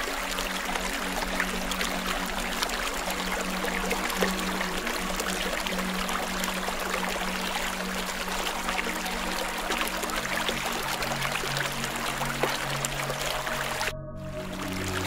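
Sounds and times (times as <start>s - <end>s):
watery hiss with crackling ticks: 0.0s - 13.9s
low sustained tones: 0.0s - 15.0s.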